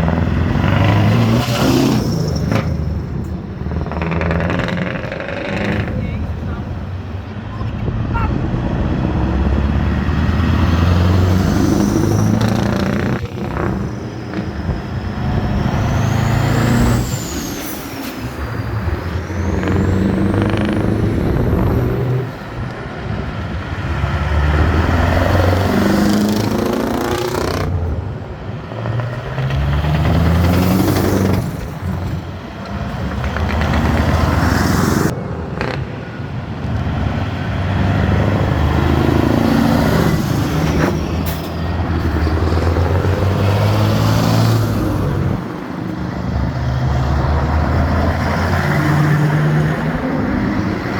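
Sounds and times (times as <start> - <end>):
truck engines revving past: 0.0 - 50.9.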